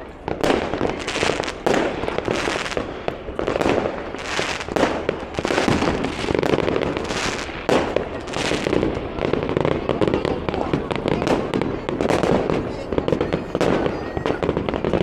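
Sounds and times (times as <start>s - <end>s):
fireworks and firecrackers banging: 0.0s - 15.0s.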